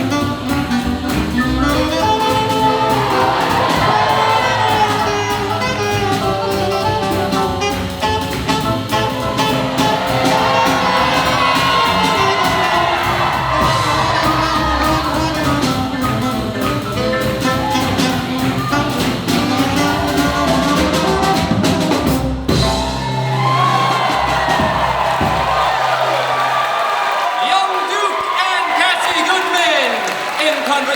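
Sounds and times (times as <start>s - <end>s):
drum kit swing beat: 0.0s - 27.0s
horns playing swing jazz: 0.0s - 27.8s.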